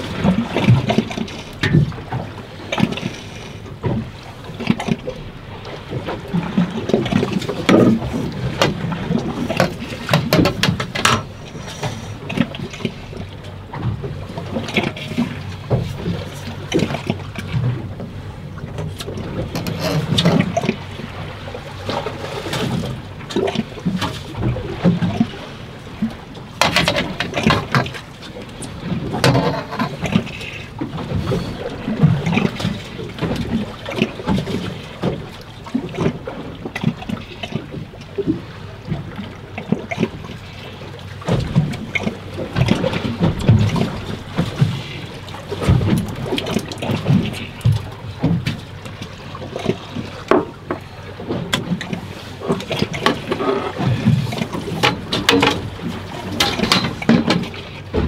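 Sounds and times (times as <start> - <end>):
water slapping against boat hull: 0.0 - 58.0.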